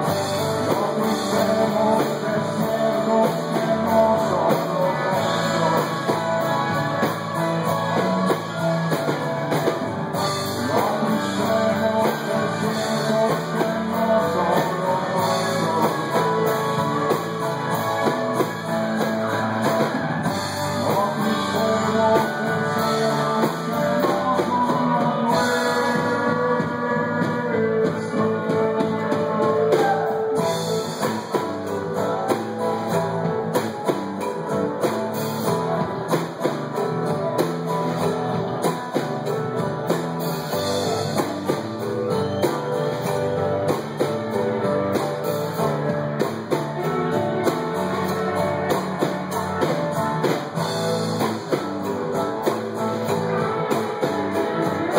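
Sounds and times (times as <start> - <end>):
drum kit: 0.0 - 54.9
guitars: 0.0 - 54.9.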